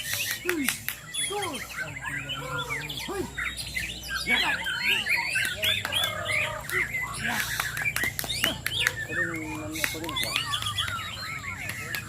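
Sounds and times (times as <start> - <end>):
birds singing whistles and chirps: 0.0 - 12.0
murmur of voices: 0.0 - 12.0.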